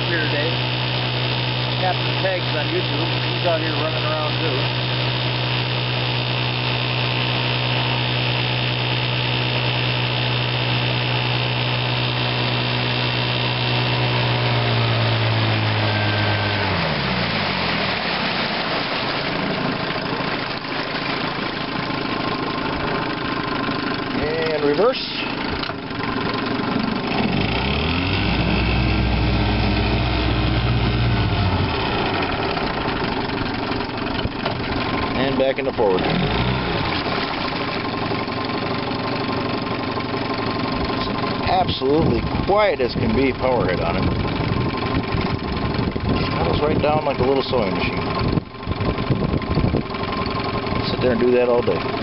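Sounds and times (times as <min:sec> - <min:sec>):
outboard motor buzzing: 0:00.0 - 0:52.0.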